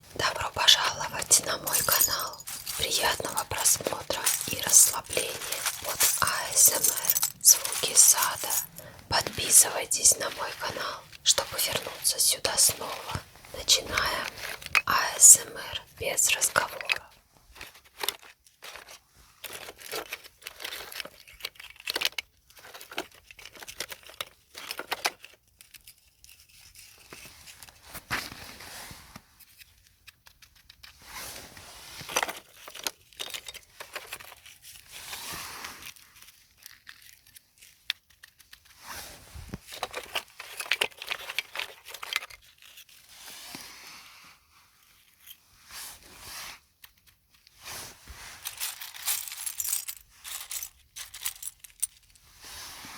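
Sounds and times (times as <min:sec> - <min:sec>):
crackling clicks and rustles: 0:00.1 - 0:52.9.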